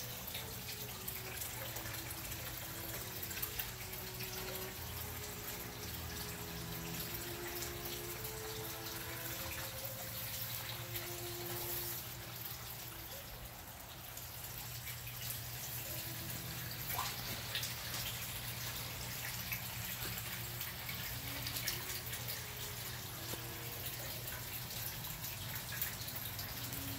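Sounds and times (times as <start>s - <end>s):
water trickling and dripping: 0.0s - 26.9s.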